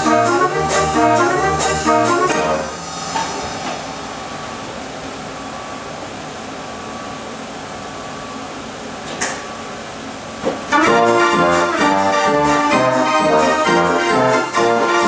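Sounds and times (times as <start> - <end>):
street organ air supply hissing: 0.0 - 7.5, 9.7 - 15.0.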